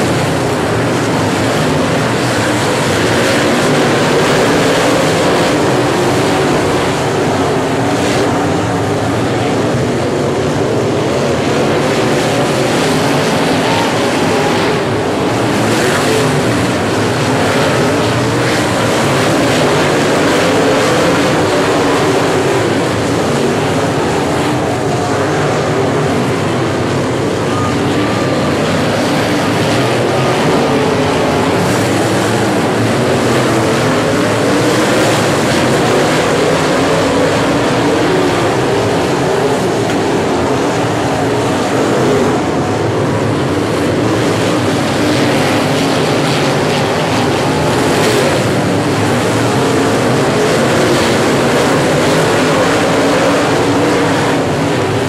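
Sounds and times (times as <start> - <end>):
race car engines roaring: 0.0 - 55.0.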